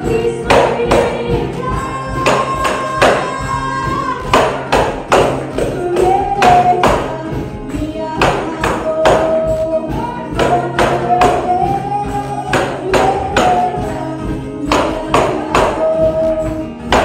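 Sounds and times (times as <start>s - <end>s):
acoustic guitar: 0.0s - 17.0s
drums: 0.0s - 17.0s
woman singing: 0.0s - 17.0s.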